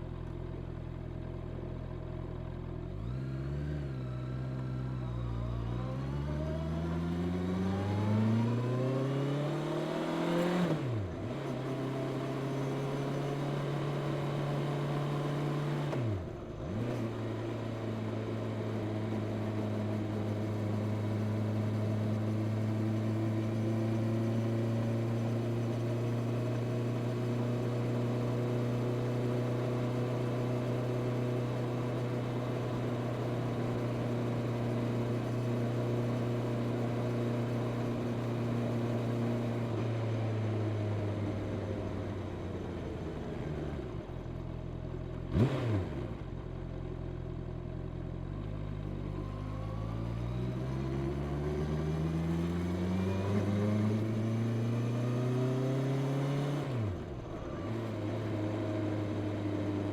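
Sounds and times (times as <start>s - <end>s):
motorcycle engine: 1.9s - 59.9s.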